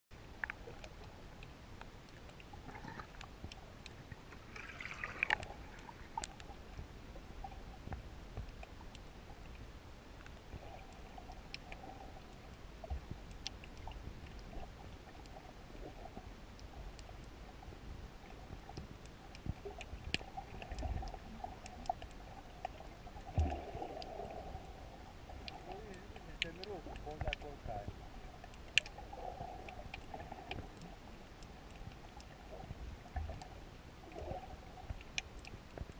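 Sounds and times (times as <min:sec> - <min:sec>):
water gurgle: 0:00.1 - 0:35.9
faint clicks: 0:00.3 - 0:35.9.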